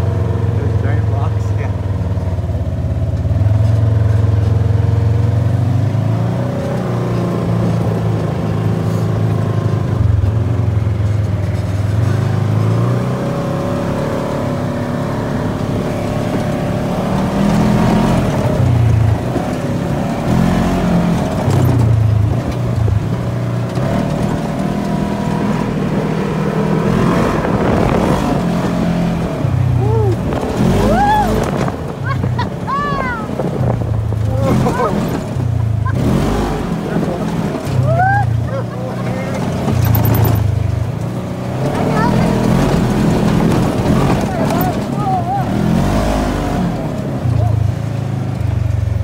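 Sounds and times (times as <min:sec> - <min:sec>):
off-road vehicle engine running: 0:00.0 - 0:49.0.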